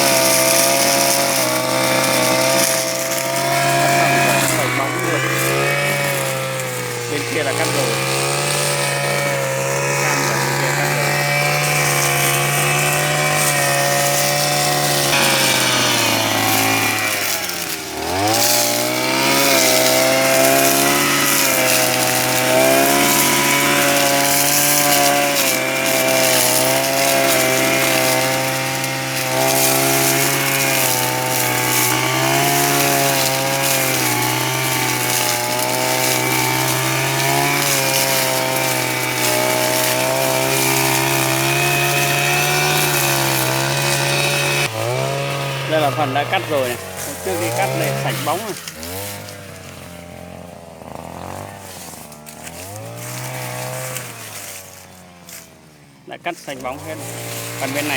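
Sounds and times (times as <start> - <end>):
brushcutter engine cutting grass: 0.0 - 57.9.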